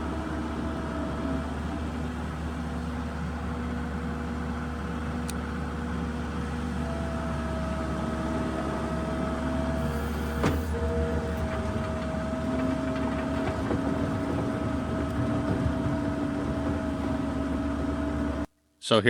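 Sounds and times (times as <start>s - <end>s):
diesel engine with high whine: 0.0s - 18.5s.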